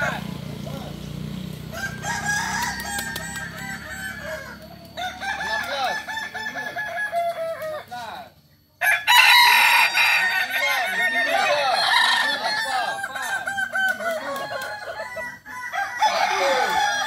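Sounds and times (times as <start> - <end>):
roosters crowing: 0.0 - 17.0.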